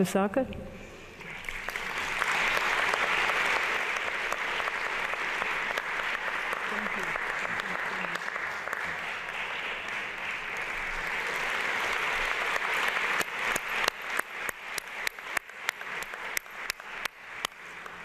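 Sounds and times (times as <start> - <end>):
audience applauding: 1.2 - 18.0.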